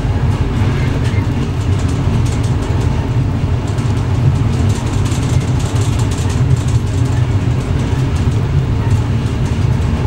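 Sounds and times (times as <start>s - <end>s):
rapid ticking rattles: 0.0s - 10.0s
train wheels rumbling on rail: 0.0s - 10.0s.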